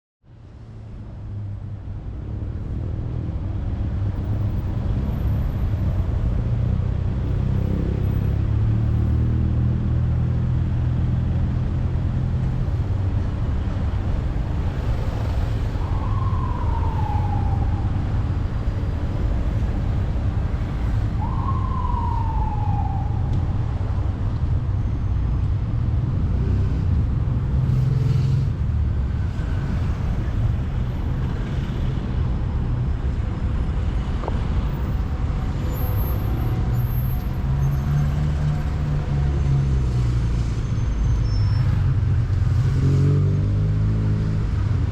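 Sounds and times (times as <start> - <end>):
city street traffic rumble: 0.2 - 44.9.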